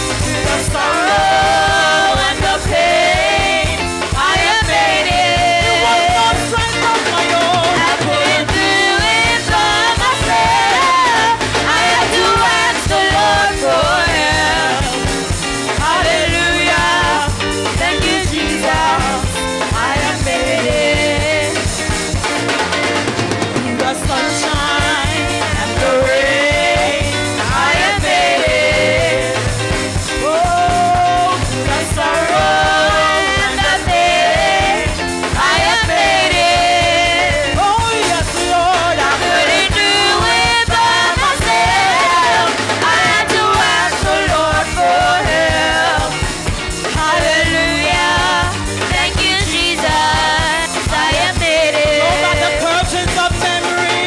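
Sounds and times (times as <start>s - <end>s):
women singing gospel: 0.0s - 22.8s, 23.5s - 54.0s
band with drum kit: 0.0s - 54.0s.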